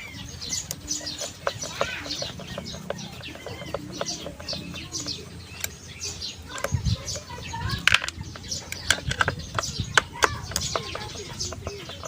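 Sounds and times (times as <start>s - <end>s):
birds chirping: 0.0s - 12.0s
light clicks and knocks: 0.6s - 5.8s, 6.4s - 12.0s.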